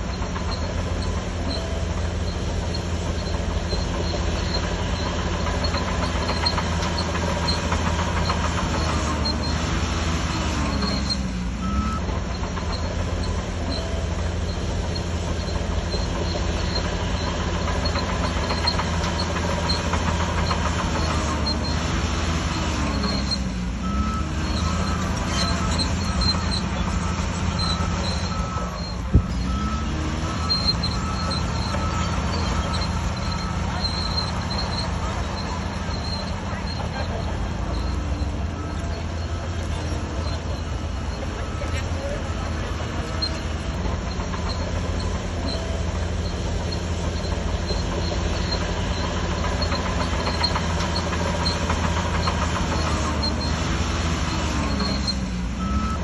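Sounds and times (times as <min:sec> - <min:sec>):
bulldozer diesel engine running: 0:00.0 - 0:56.0
steel tracks clanking: 0:00.0 - 0:56.0.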